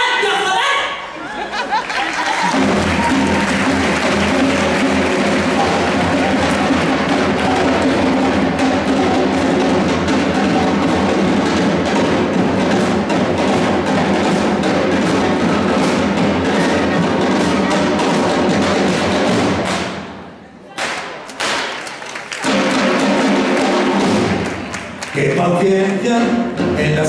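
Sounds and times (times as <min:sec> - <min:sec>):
loud band music with drums: 0:02.1 - 0:27.0.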